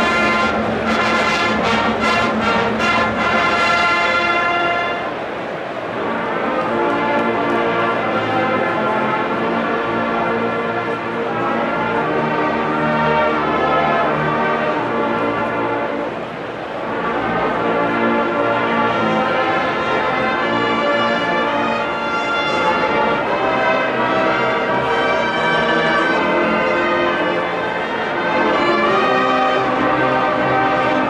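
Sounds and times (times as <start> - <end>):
marching band playing: 0.0 - 31.0.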